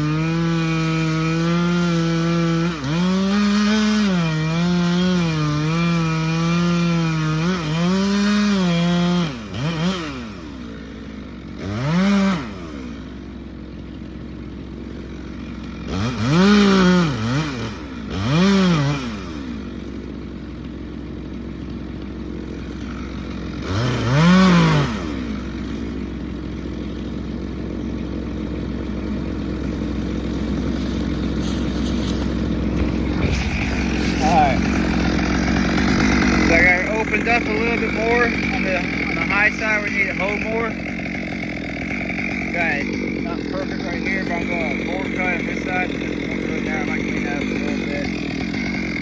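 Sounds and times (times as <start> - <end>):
chainsaw revving and idling: 0.0 - 49.0.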